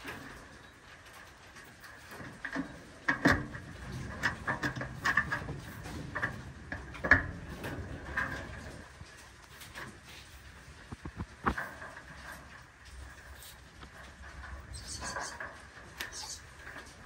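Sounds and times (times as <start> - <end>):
knocks and clatters: 0.0 - 17.0.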